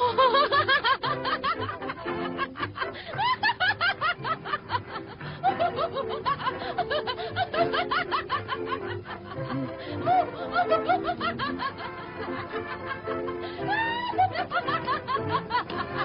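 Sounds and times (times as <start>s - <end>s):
light background music: 0.0s - 16.0s
woman laughing: 0.0s - 16.0s.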